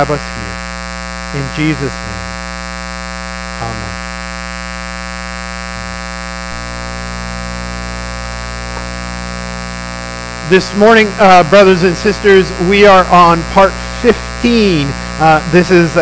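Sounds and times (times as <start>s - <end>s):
electrical mains buzz: 0.0s - 16.0s.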